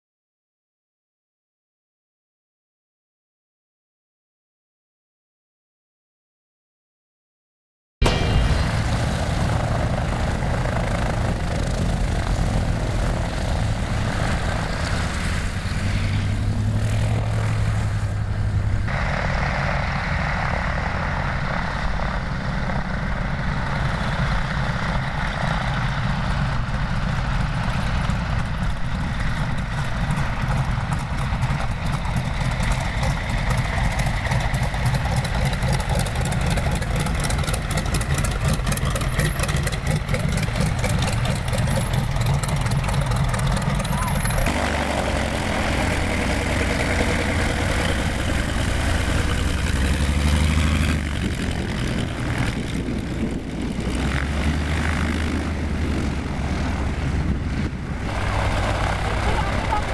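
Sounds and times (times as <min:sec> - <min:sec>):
propeller aircraft engines running: 0:08.0 - 0:59.9.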